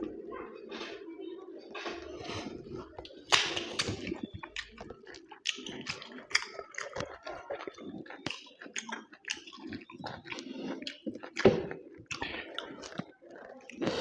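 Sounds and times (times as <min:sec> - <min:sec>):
chewing with wet mouth smacks: 0:02.8 - 0:14.0.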